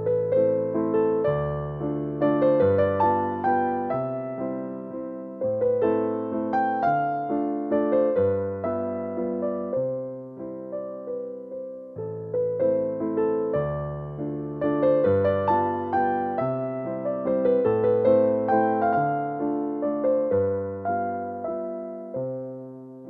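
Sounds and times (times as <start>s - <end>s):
slow gentle piano melody: 0.0s - 23.0s.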